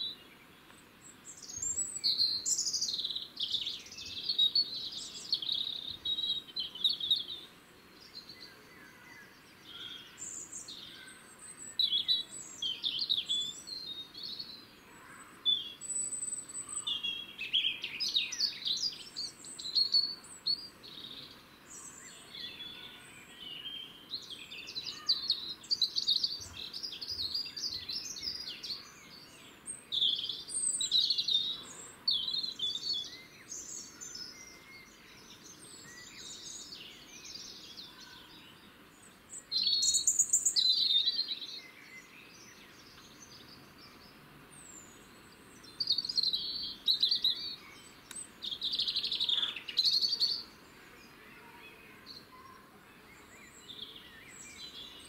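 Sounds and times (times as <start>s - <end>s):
songbirds twittering and trilling: 0.0s - 55.0s.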